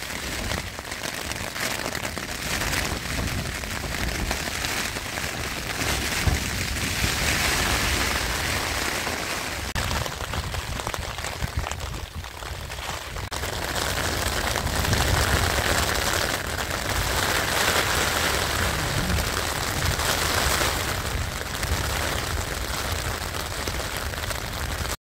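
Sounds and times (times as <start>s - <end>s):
heavy rain on a tent: 0.0s - 25.0s
low wind rumble: 0.0s - 25.0s.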